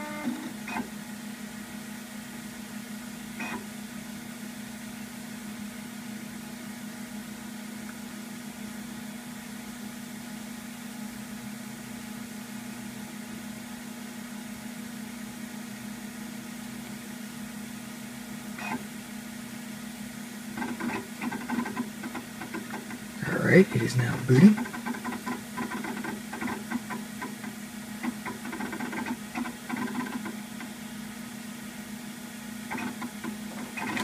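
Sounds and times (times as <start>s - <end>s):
computer fan and hard drive whirring: 0.0s - 34.0s.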